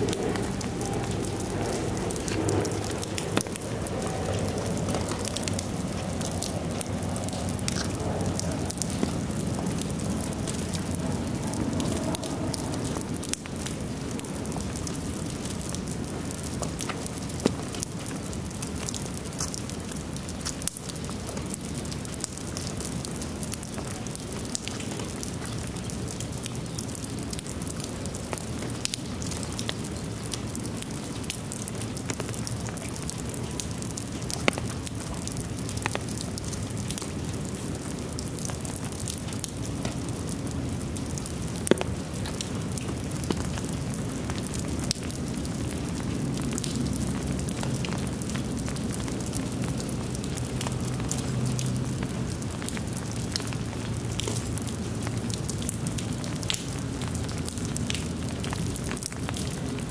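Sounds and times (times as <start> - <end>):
louder raindrop hits: 0.0 - 59.9
steady rain falling: 0.0 - 59.9.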